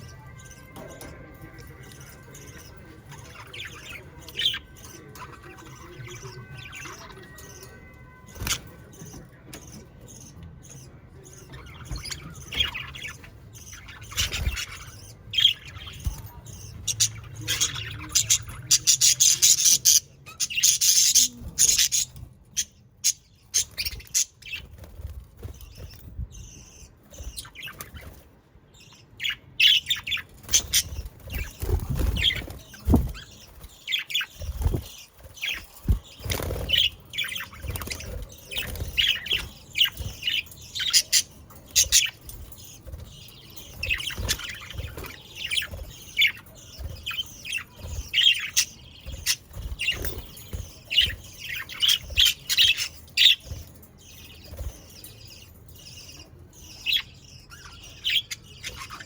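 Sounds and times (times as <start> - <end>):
budgerigars chirping: 0.0 - 28.2, 28.9 - 59.0.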